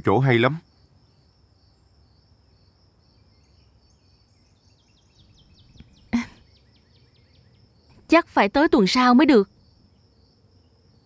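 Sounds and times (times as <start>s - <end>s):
bird chirping: 0.0s - 11.0s
high insect drone: 0.0s - 11.0s.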